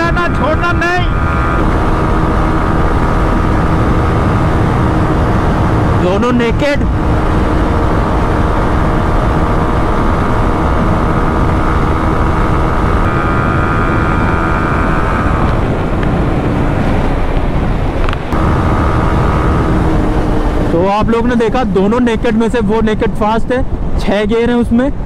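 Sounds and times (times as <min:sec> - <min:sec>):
motorcycle engine high-revving: 0:00.0 - 0:22.0
wind roar on microphone: 0:00.0 - 0:25.0.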